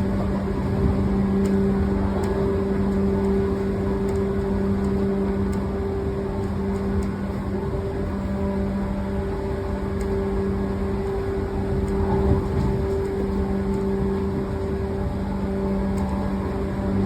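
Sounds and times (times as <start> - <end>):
constant motor hum: 0.0 - 17.0
train wheels rumbling on rail: 0.0 - 17.0
faint clicks: 0.6 - 17.0.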